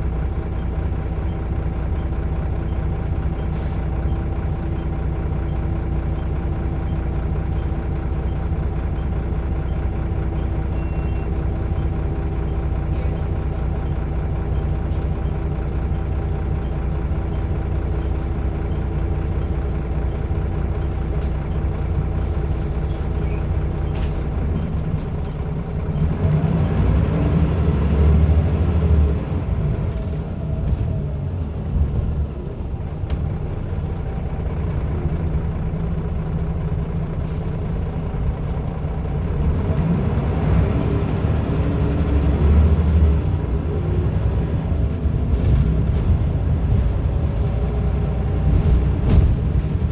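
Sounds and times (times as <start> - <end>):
bus diesel engine idling: 0.0 - 49.9.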